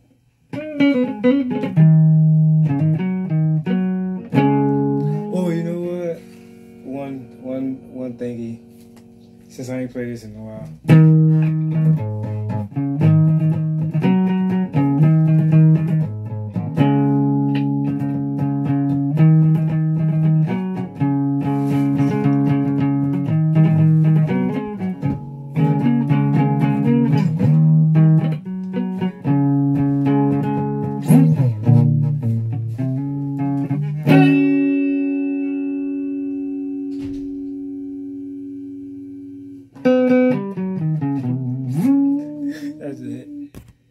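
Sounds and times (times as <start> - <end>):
electric guitar chords: 0.5 - 9.5, 10.6 - 43.6.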